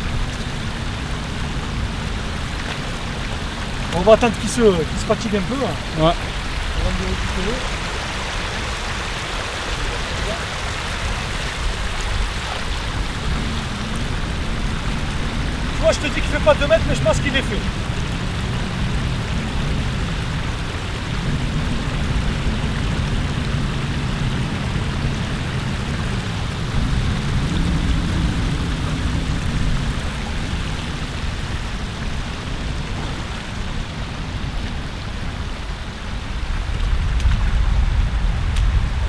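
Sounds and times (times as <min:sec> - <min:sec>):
rushing river cascade: 0:00.0 - 0:39.0.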